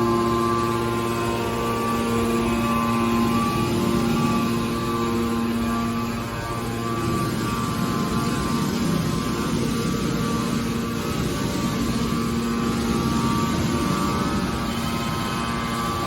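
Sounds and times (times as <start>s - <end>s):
baler machine humming: 0.0s - 16.0s.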